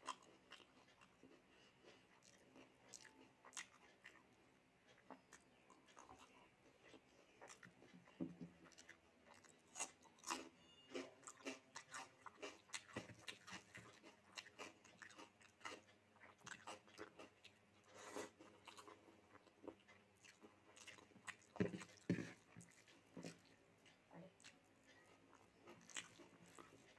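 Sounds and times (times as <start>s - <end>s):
person chewing food: 0.0s - 26.9s.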